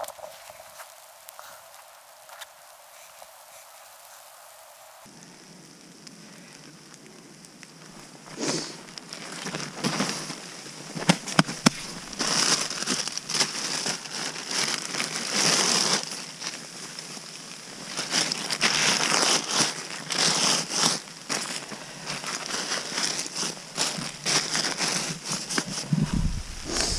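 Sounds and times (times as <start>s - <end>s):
plastic bag and backpack rustling: 0.0s - 4.4s, 8.0s - 26.9s.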